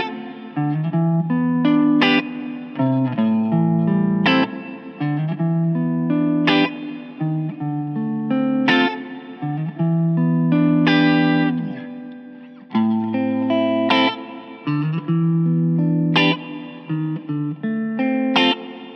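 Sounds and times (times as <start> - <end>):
electric guitar chords: 0.0 - 18.9.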